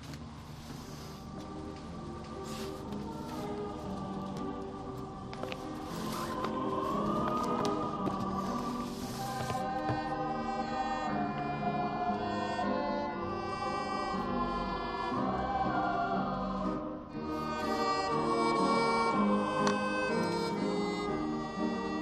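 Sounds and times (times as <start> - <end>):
choir singing held chords: 0.6 - 22.0.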